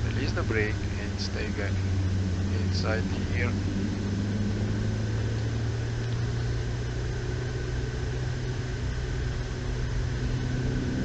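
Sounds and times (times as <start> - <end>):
car engine from inside cabin: 0.0 - 11.0
road noise hiss: 0.0 - 11.0.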